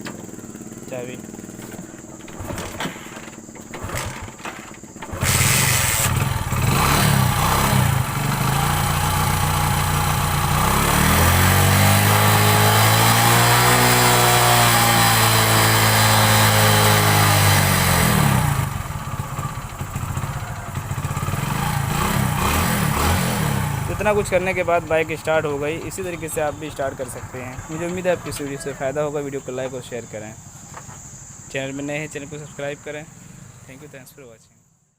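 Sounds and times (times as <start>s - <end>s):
motorcycle engine starting and revving: 0.0s - 32.3s.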